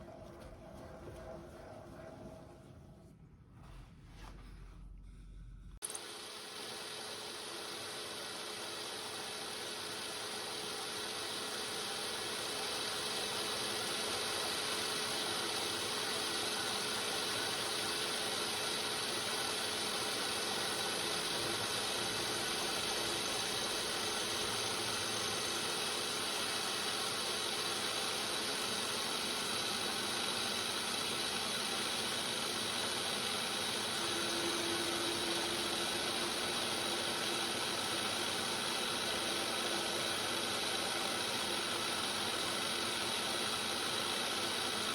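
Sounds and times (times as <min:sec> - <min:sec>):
machine tool motor humming: 0:05.8 - 0:44.9.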